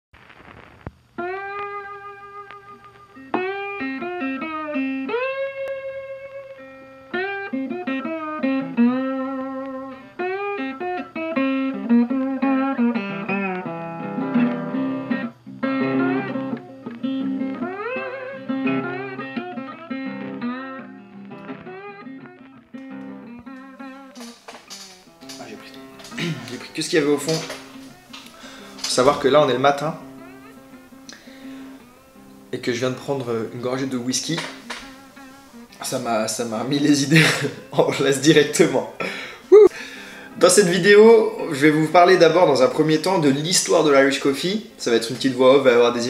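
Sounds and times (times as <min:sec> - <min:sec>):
solo guitar playing: 0:01.2 - 0:46.0.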